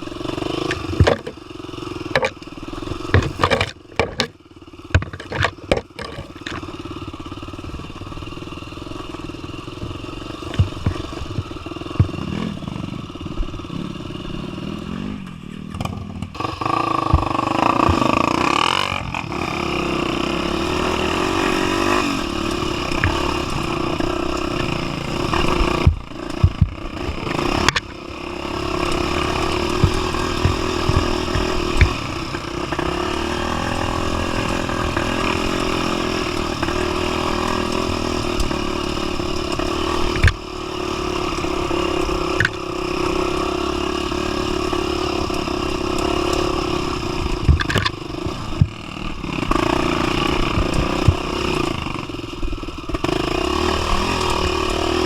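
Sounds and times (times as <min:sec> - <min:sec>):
knocks and clatter from bike: 0:00.0 - 0:55.0
motorcycle engine revving: 0:00.0 - 0:55.0.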